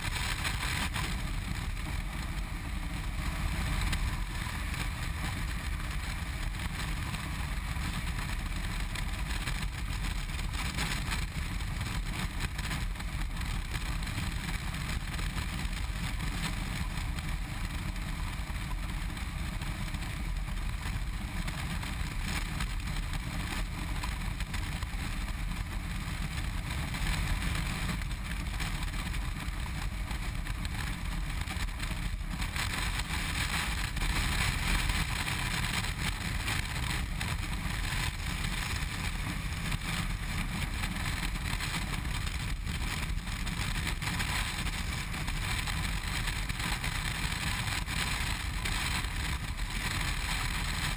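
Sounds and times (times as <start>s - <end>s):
motorcycle engine drone: 0.0s - 50.9s.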